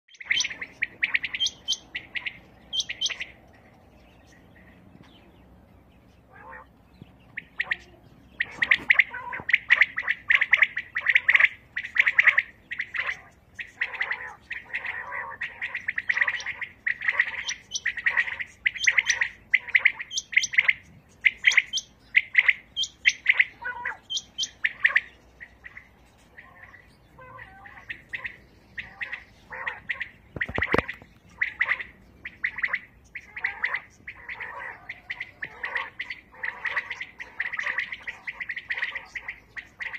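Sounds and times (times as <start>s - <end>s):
quails calling: 0.1s - 39.9s.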